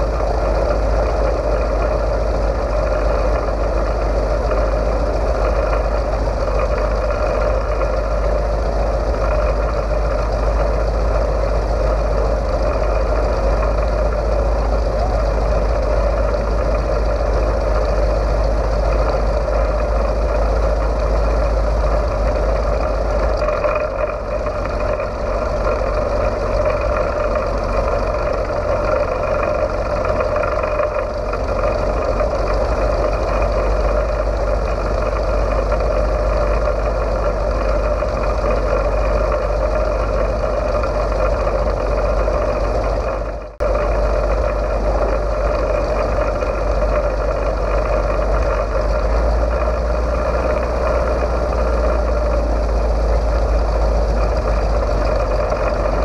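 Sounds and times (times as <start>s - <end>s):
radial aircraft engine running: 0.0s - 56.0s.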